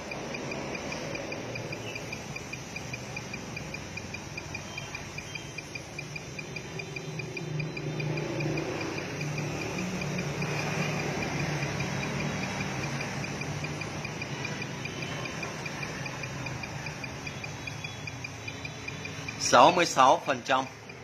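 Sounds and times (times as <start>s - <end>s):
high-pitched chirp pulses: 0.0s - 21.0s.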